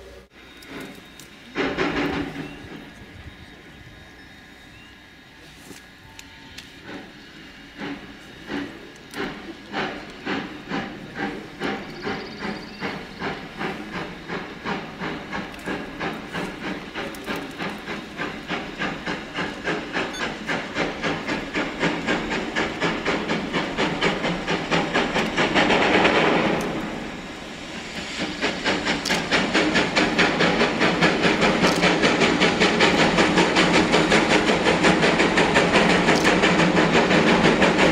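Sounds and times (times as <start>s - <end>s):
steam hissing: 0.0s - 37.9s
steam locomotive chuffing: 0.0s - 37.9s.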